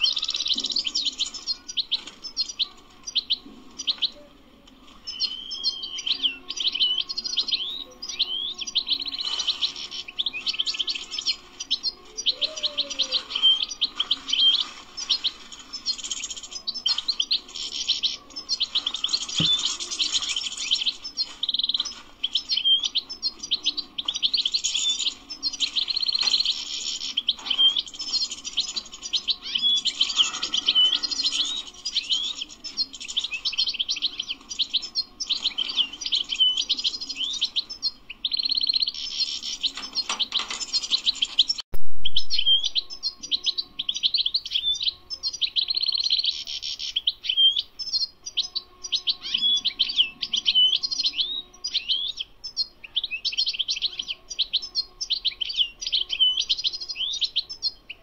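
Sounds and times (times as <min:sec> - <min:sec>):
goldfinch singing: 0:00.0 - 0:04.2, 0:04.8 - 0:58.0.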